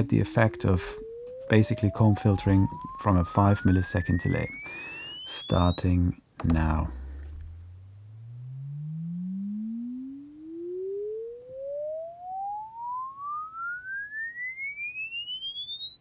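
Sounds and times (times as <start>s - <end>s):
rising sine tone sweep: 0.0s - 16.0s.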